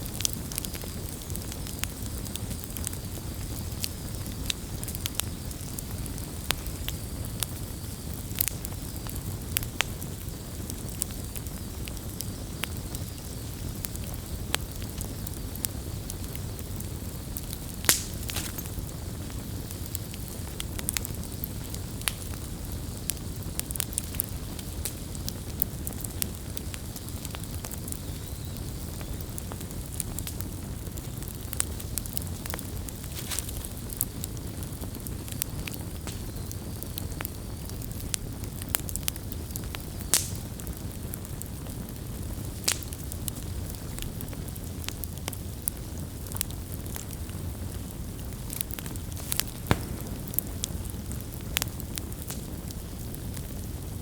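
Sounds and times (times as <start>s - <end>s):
campfire crackles and pops: 0.0s - 54.0s
campfire flames rushing: 0.0s - 54.0s.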